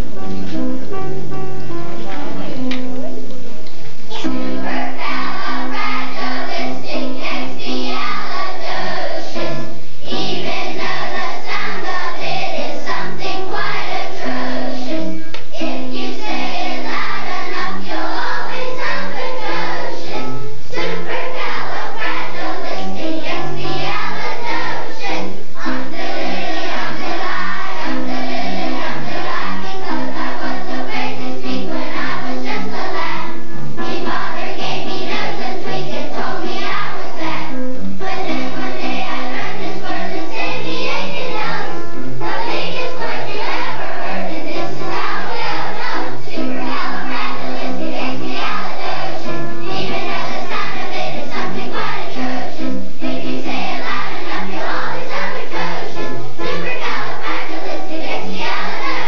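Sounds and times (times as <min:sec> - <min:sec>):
instrumental accompaniment: 0:00.0 - 0:59.0
children's choir singing: 0:04.0 - 0:59.0.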